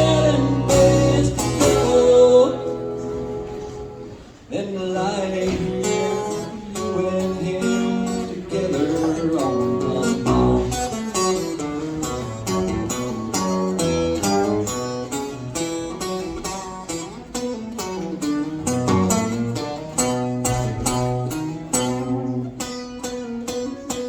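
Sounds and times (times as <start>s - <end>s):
acoustic guitar strummed and picked: 0.0s - 24.0s.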